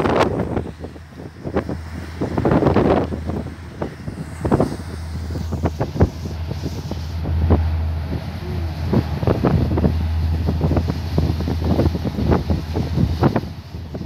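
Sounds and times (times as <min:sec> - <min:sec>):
ship engine hum: 0:00.0 - 0:14.0
wind buffeting microphone: 0:00.0 - 0:14.0.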